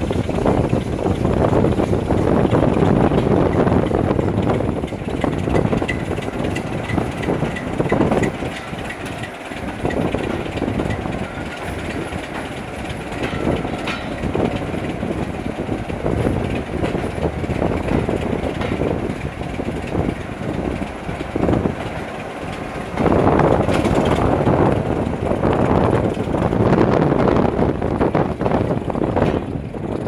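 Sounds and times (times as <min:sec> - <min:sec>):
train wheels rumbling: 0:00.0 - 0:30.0
wheels clattering over rail joints: 0:00.0 - 0:30.0.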